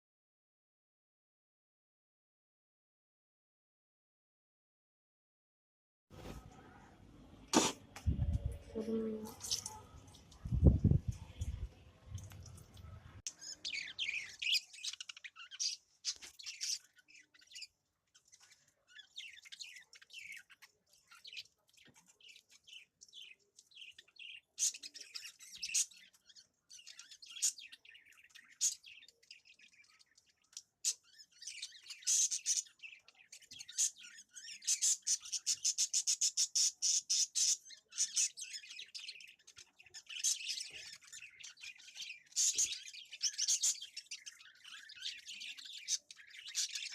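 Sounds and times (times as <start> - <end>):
small birds chirping: 6.2 - 46.9.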